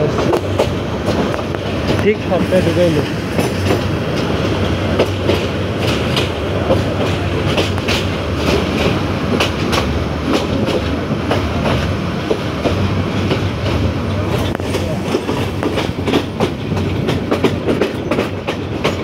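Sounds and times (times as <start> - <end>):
train rumbling at speed: 0.0 - 19.0
wheels clacking over rail joints: 0.0 - 19.0.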